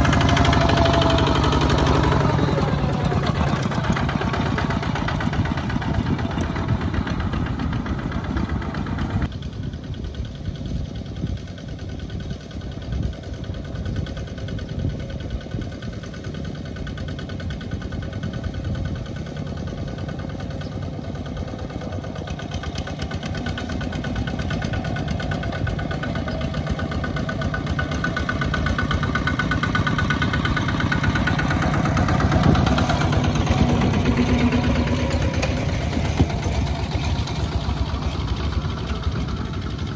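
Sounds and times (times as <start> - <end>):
diesel walking tractors chugging: 0.0 - 39.9.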